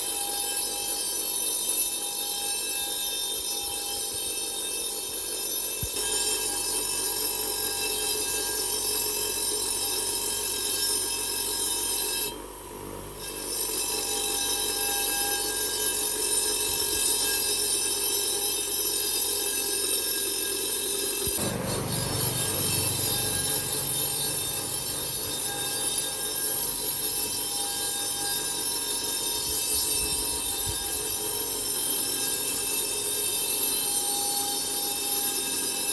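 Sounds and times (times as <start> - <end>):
power tool whining: 0.0 - 35.9.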